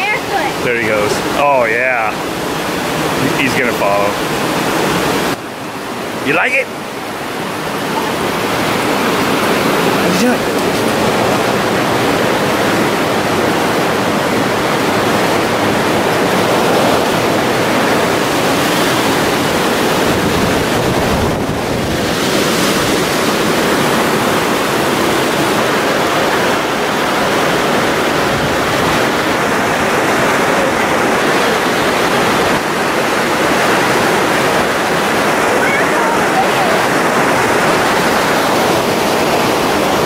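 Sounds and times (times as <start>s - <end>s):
creek water rushing over rocks: 0.0s - 40.0s.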